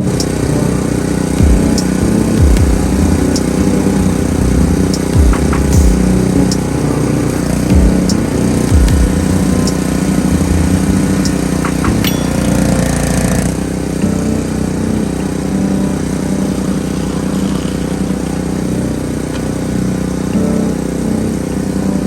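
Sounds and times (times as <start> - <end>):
pressure washer engine running: 0.0 - 22.0.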